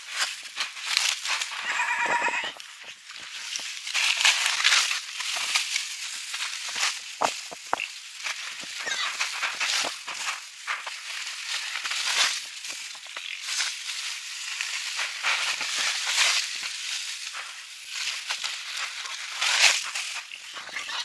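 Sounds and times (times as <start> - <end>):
dry corn stalks crackling: 0.0 - 21.0.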